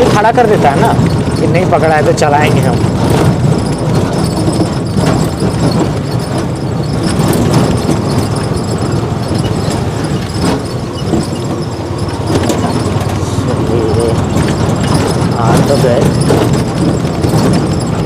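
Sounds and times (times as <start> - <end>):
sharp clicks and rattles: 0.0 - 18.0
vehicle engine and road noise: 0.0 - 18.0.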